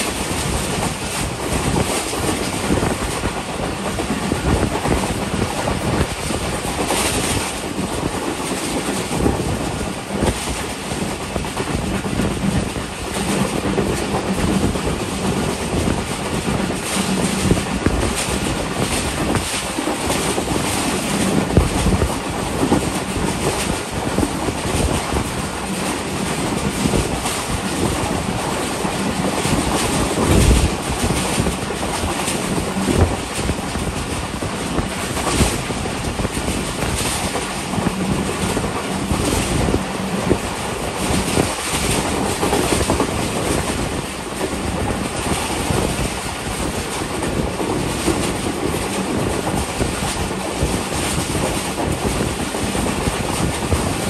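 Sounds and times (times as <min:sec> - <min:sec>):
rail clacks: 0:00.0 - 0:54.0
train wheels on rails: 0:00.0 - 0:54.0.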